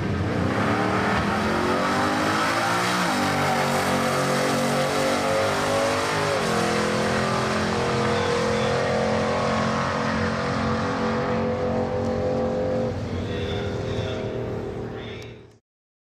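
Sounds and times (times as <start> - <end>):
drag car engine accelerating: 0.0 - 15.3.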